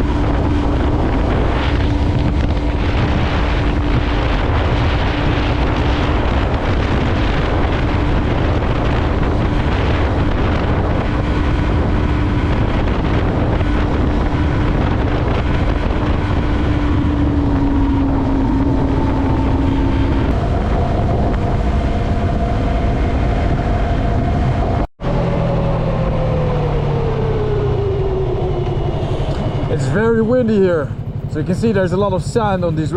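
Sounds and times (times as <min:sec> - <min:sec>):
motorcycle engine: 0:00.0 - 0:32.9
wind noise on microphone: 0:00.0 - 0:32.9.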